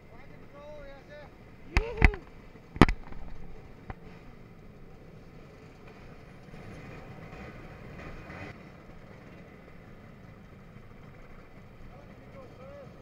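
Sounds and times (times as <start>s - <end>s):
scooter engines idling: 0.0s - 13.0s.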